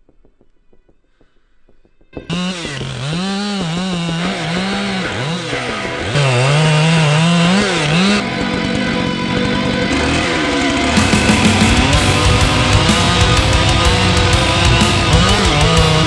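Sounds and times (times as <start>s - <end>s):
chainsaw revving: 2.2s - 16.0s
dense buzzy sound: 2.2s - 16.0s.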